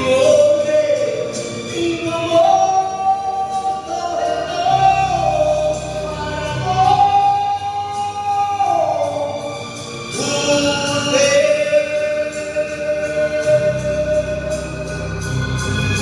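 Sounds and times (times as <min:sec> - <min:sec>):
slow bolero on electronic keyboard: 0:00.0 - 0:16.0.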